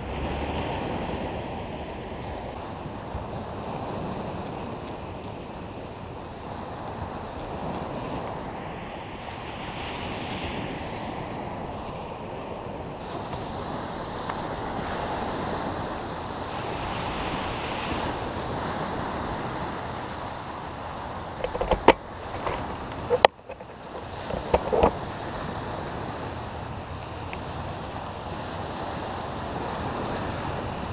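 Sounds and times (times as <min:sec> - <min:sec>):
waves washing onto sand: 0:00.0 - 0:30.9
wind on microphone: 0:00.0 - 0:30.9.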